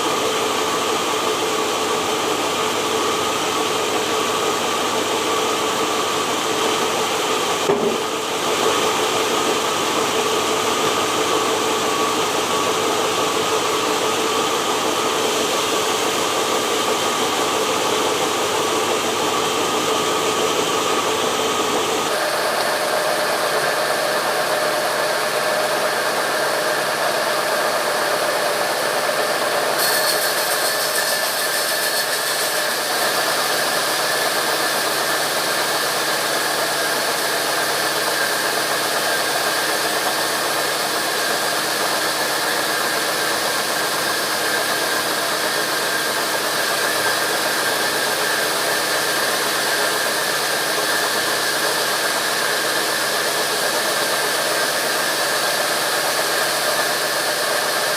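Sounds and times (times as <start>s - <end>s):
sawmill machinery whining: 0.0s - 57.9s.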